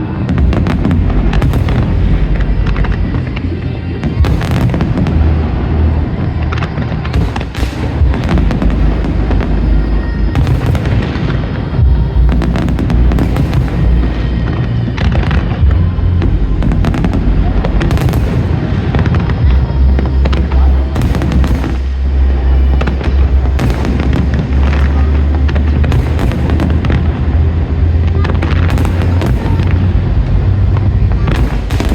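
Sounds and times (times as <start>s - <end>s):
fireworks booming and cracking: 0.0s - 31.9s
loud music: 0.0s - 31.9s.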